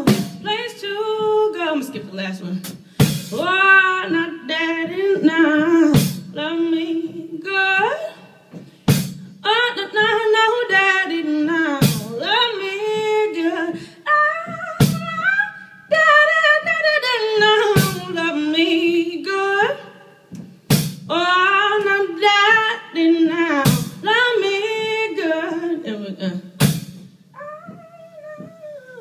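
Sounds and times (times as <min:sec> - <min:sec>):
woman singing: 0:00.0 - 0:08.5, 0:09.4 - 0:20.2, 0:21.1 - 0:26.6, 0:27.4 - 0:29.0.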